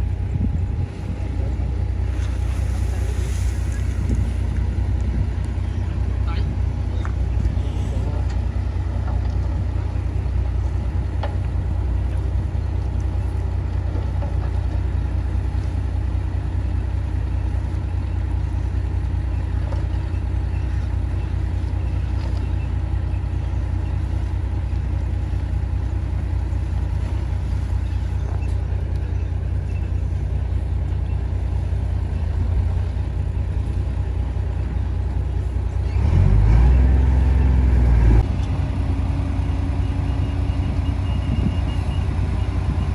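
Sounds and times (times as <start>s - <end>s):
heavy diesel engine droning: 0.0s - 42.9s.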